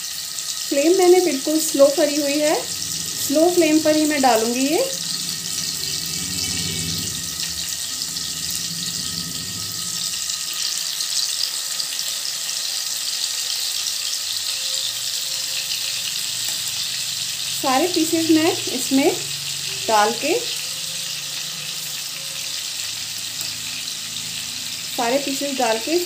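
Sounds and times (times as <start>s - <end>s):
oil sizzling in a frying pan: 0.0s - 26.0s.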